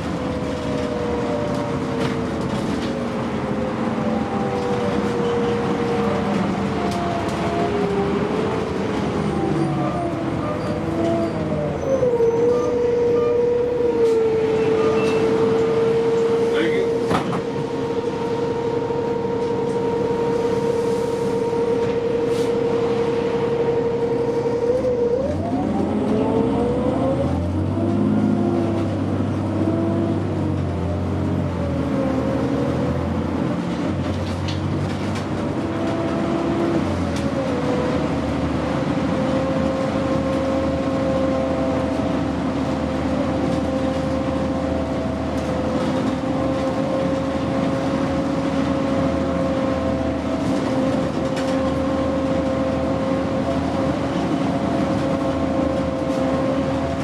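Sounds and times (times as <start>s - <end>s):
diesel bus engine whine: 0.0s - 57.0s.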